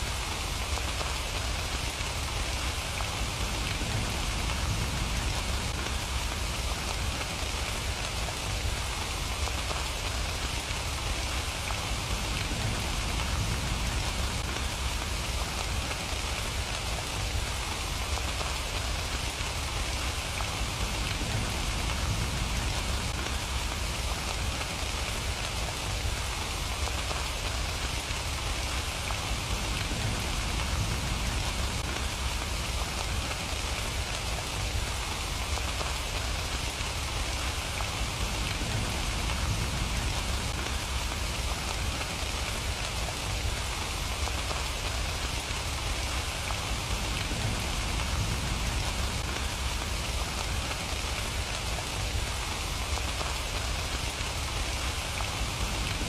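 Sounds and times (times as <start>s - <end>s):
constant low rumble: 0.0s - 56.0s
steady rain falling: 0.0s - 56.0s.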